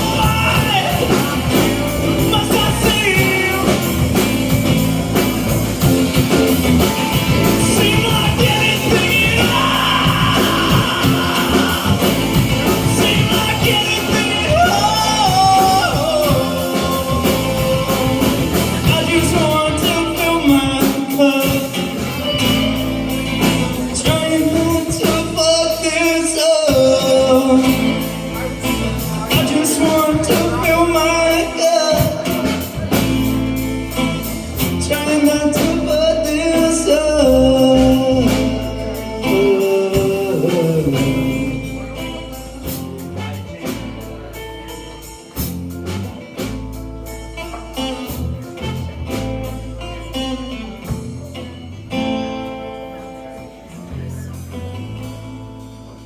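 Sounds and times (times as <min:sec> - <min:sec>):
person singing: 0:00.0 - 0:45.4
live rock band playing: 0:00.0 - 0:56.0.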